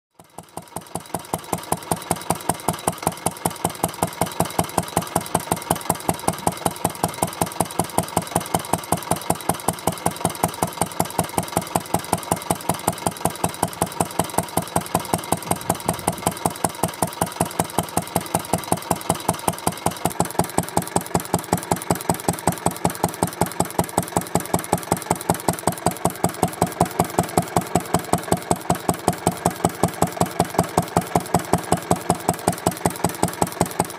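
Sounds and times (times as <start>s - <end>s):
stationary engine running: 0.2s - 33.9s.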